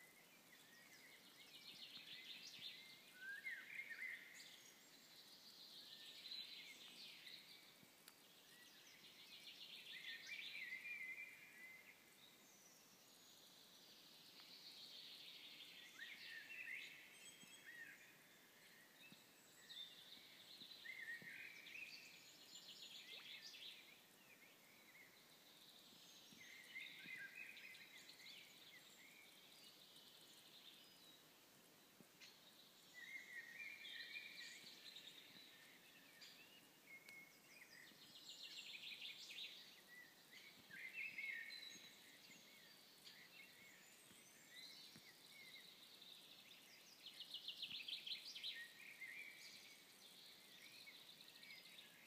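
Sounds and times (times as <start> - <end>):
faint steady hiss: 0.0 - 52.0
songbirds chirping and trilling: 0.0 - 52.0.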